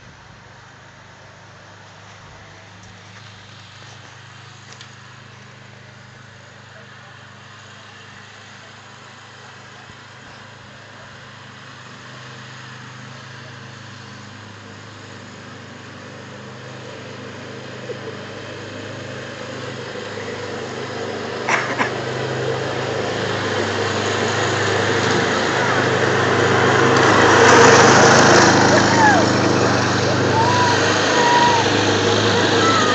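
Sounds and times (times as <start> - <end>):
lawn tractor engine running: 0.0 - 32.9.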